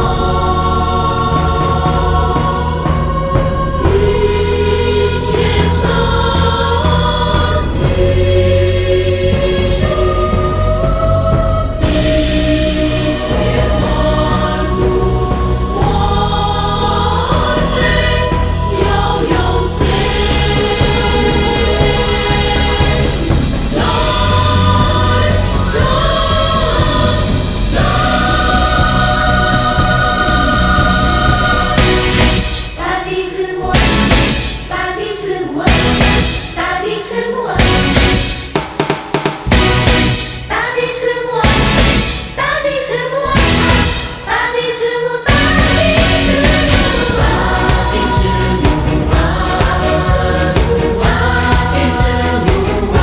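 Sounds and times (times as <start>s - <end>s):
low bass: 0.0s - 32.8s, 33.7s - 34.6s, 35.7s - 36.4s, 37.6s - 38.4s, 39.5s - 40.3s, 41.4s - 42.2s, 43.3s - 44.0s, 45.3s - 53.0s
choir-like voices holding notes: 0.0s - 53.0s.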